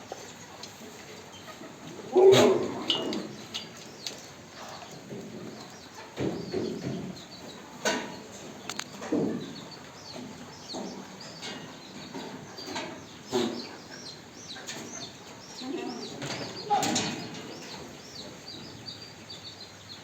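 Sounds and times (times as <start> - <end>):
small birds chirping: 1.3 - 20.0.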